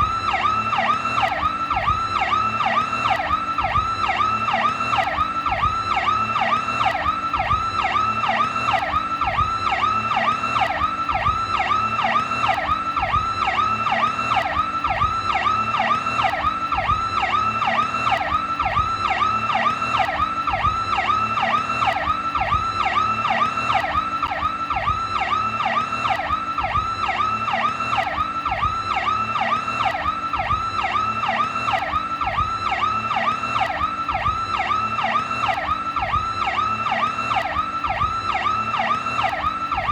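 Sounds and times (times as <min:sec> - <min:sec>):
police siren warbling: 0:00.0 - 0:39.9.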